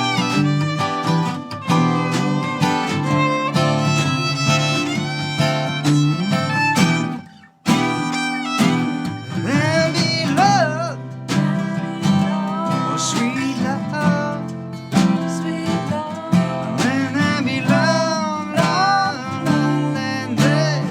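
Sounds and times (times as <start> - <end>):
guitar: 0.0 - 20.9
violin: 0.0 - 20.9.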